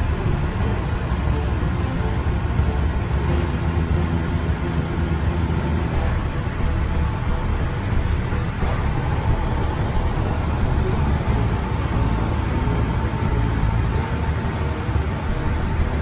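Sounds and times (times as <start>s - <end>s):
airliner cockpit engine noise: 0.0s - 16.0s
faint steady tone: 0.0s - 16.0s.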